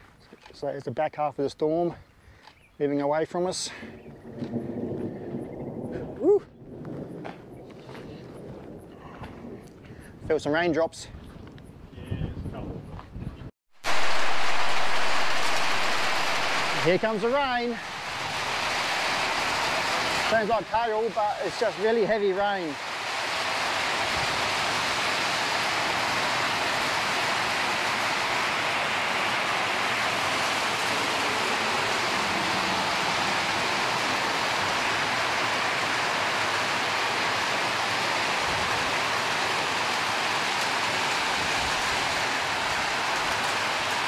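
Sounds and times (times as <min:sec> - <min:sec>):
heavy rain on a metal roof: 0:03.7 - 0:09.8, 0:13.8 - 0:44.0.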